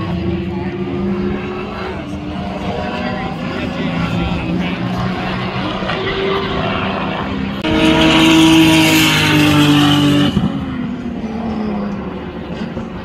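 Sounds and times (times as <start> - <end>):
distant race car engine: 0.0 - 13.0
race car passing at high revs: 0.0 - 13.0.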